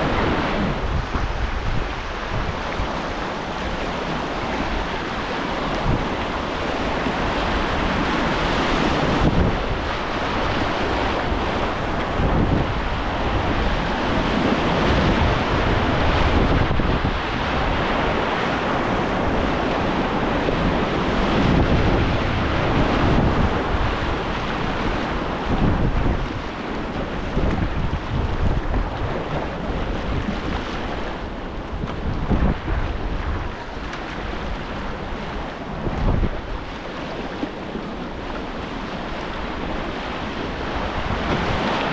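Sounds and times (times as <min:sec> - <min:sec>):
whitewater rapids roaring: 0:00.0 - 0:41.9
wind buffeting microphone: 0:00.0 - 0:41.9.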